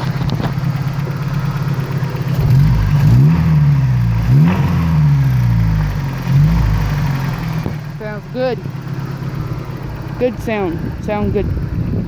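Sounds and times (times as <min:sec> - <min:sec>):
pickup engine idling and revving: 0:00.0 - 0:12.0.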